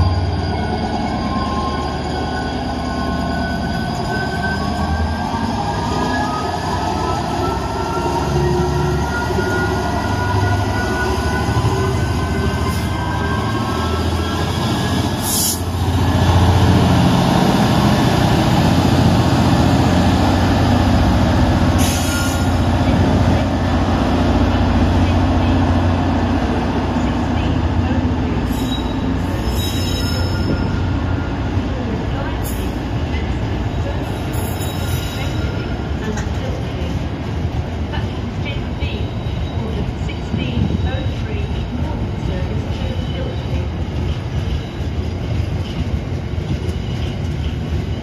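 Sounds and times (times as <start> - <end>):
rumble of wheels on track: 0.0 - 48.0.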